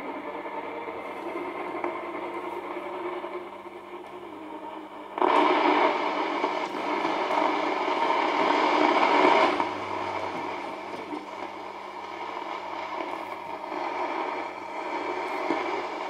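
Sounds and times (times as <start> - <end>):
faint steady hum: 0.0 - 16.0
radio receiver hiss and static: 0.0 - 16.0.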